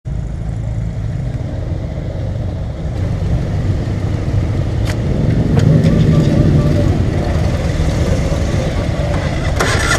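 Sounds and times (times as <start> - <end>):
motorcycle engine running: 0.1 - 9.9.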